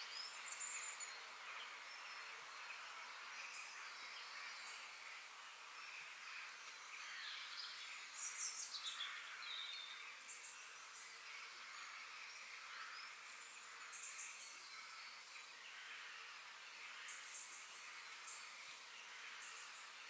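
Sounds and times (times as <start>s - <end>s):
songbirds chirping: 0.0s - 20.0s
steady faint hiss: 0.0s - 20.0s.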